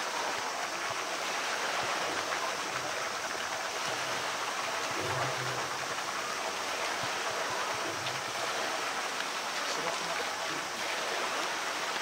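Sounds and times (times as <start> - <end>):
bear swimming: 0.0 - 12.0
running water rushing: 0.0 - 12.0.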